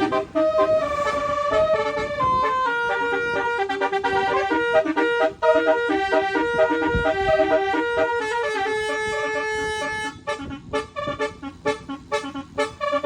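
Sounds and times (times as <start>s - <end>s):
bus air horn playing a tune: 0.0s - 13.0s.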